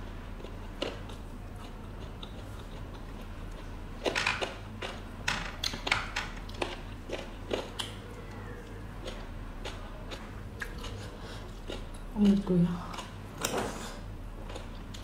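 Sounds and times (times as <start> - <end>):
chewing: 0.4 - 5.0, 6.5 - 15.0.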